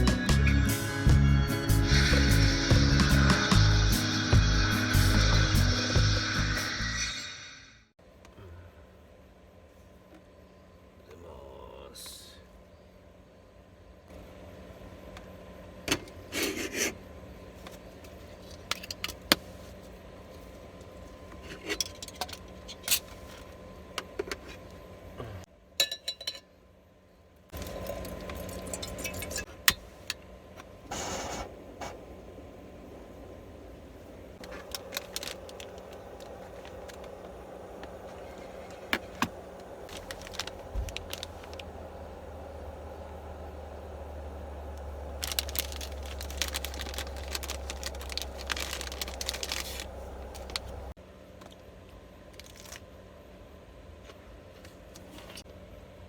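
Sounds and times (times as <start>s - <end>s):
steady low hum: 0.0s - 7.0s, 7.8s - 56.0s.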